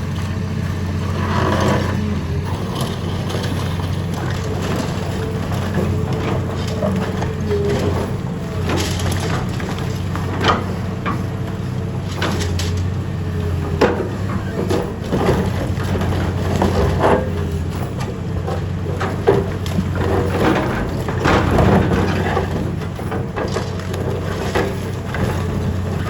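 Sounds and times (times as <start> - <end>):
concrete crunching and cracking: 0.0 - 26.0
excavator engine running: 0.0 - 26.0.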